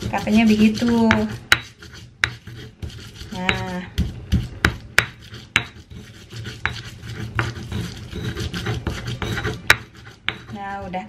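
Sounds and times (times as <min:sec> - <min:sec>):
pestle knocking against mortar: 0:00.0 - 0:05.9, 0:06.6 - 0:10.6
stone pestle grinding in mortar: 0:00.0 - 0:11.0.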